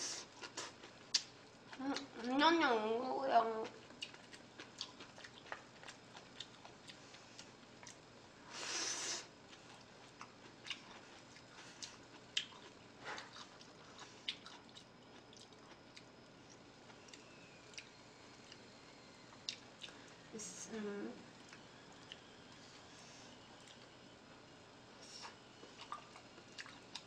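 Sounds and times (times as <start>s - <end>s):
soft chewing: 0.0s - 2.4s, 3.6s - 8.2s, 9.2s - 20.3s, 21.3s - 24.0s, 25.0s - 27.0s.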